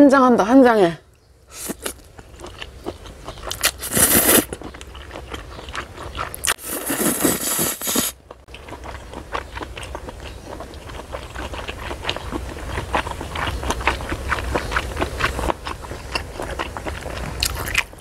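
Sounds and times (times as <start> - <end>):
wet chewing with crunchy clicks: 1.1 - 18.0
noodles slurping: 1.5 - 18.0.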